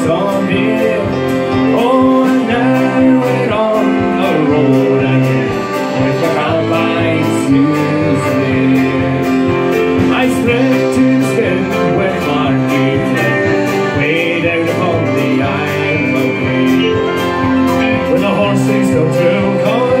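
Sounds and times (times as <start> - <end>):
accordion: 0.0 - 20.0
keyboard: 0.0 - 20.0
strummed acoustic guitar: 0.0 - 20.0.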